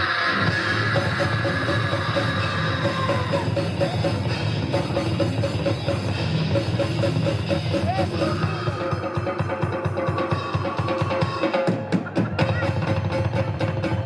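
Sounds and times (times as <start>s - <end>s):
death metal band playing live: 0.0s - 11.6s
rapid drum strokes: 0.4s - 14.0s.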